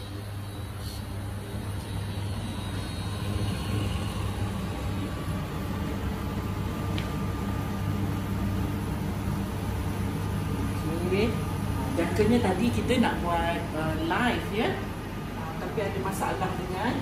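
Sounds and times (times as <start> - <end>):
stove humming: 0.0 - 17.0.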